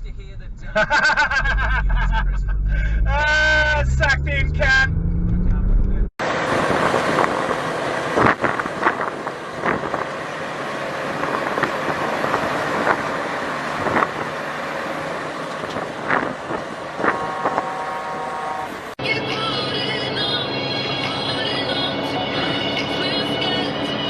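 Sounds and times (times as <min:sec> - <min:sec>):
road noise from moving vehicle: 0:00.0 - 0:24.0.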